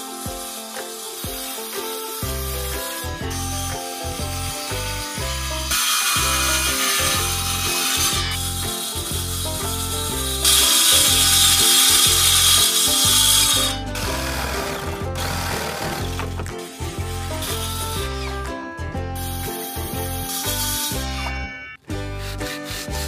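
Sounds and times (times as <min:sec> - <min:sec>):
circular saw cutting plywood: 0:00.0 - 0:18.6, 0:19.2 - 0:21.4, 0:22.0 - 0:23.0
background music with steady beat: 0:00.0 - 0:23.0.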